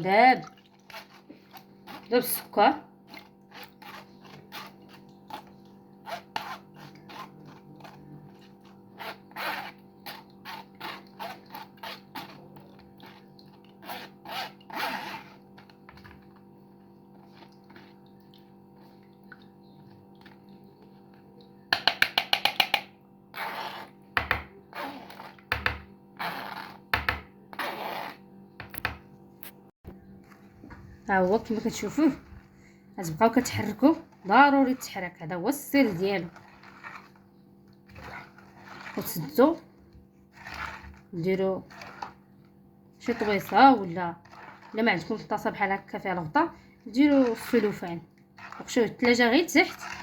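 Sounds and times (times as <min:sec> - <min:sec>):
stirring strokes: 0:00.0 - 0:26.9, 0:30.2 - 0:50.0
utensil scraping a bowl: 0:00.6 - 0:16.4, 0:21.7 - 0:28.9, 0:31.1 - 0:50.0.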